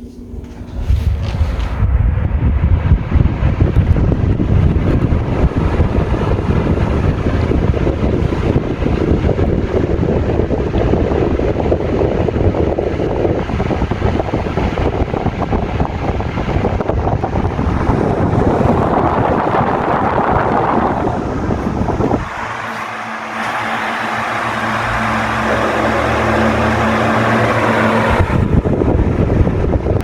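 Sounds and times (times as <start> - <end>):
fan airflow buffeting microphone: 0.0 - 30.0
fan motor hum: 0.0 - 30.0.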